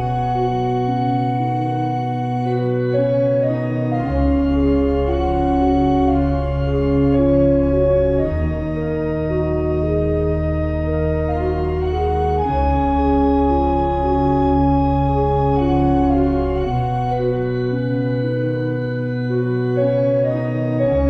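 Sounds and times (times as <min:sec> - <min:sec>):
slow sustained chords: 0:00.0 - 0:21.0.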